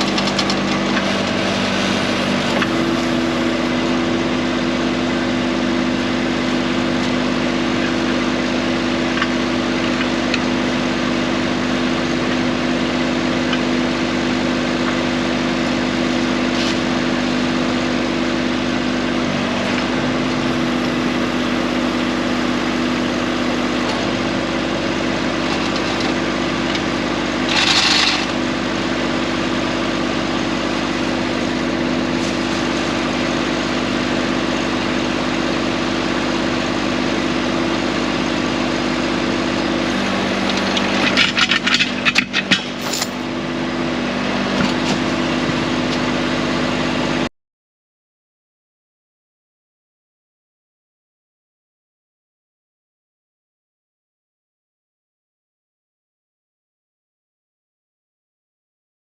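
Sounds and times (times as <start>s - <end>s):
tractor engine running: 0.0s - 47.3s.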